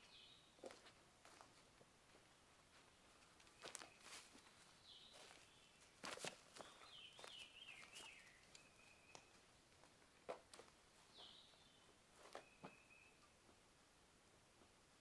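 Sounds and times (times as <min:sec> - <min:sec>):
faint birdsong: 0:00.0 - 0:15.0
soft footsteps: 0:00.6 - 0:13.6.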